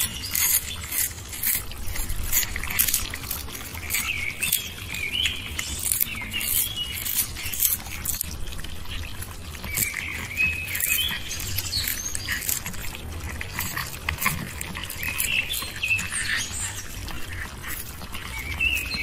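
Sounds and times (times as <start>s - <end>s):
cat crunching dried fish: 0.0s - 19.0s.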